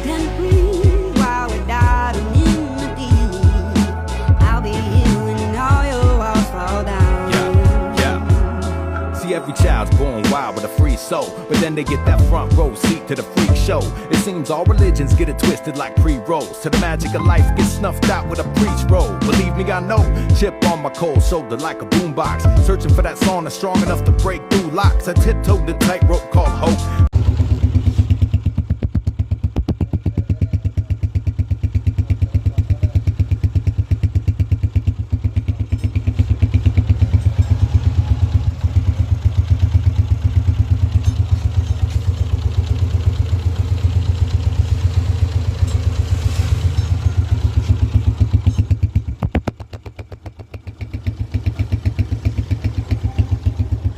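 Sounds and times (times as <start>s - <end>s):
motorcycle engine idling: 0.0s - 8.8s, 9.6s - 21.4s, 25.2s - 53.9s.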